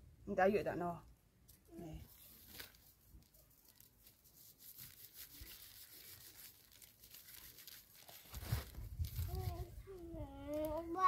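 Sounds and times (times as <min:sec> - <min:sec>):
rustling of dried fruit clusters: 0:01.7 - 0:11.0.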